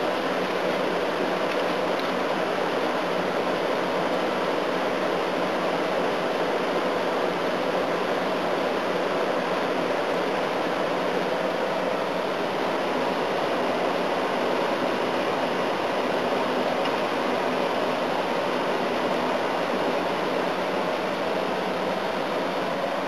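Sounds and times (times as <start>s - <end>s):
air conditioner fan blowing: 0.0s - 23.0s.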